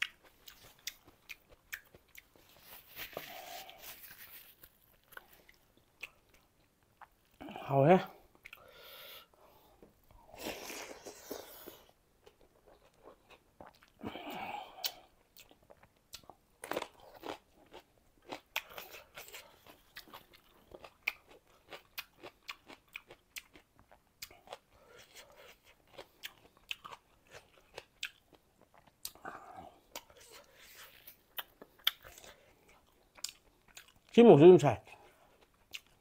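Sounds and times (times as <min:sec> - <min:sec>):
close chewing of food: 0:00.0 - 0:36.0.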